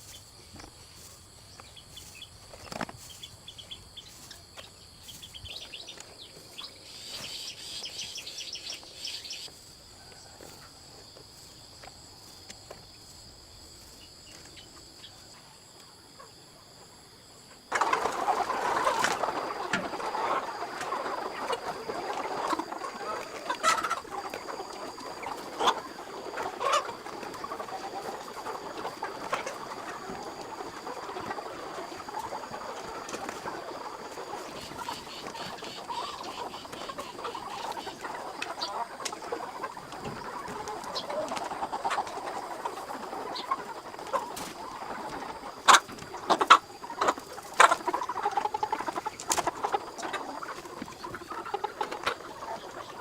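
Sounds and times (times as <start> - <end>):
chickens chirping: 0.0 - 53.0
chickens clucking: 0.0 - 53.0.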